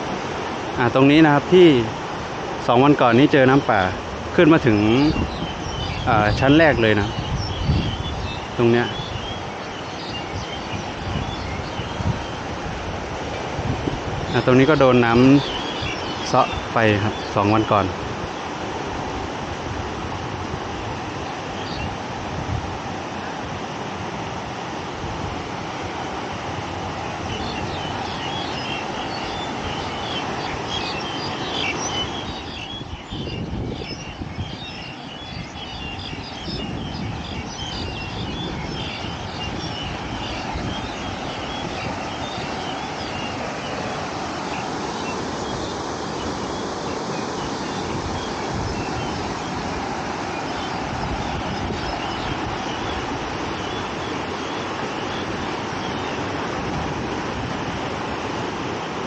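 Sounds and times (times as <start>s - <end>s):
fast-flowing water rushing: 0.0s - 59.0s.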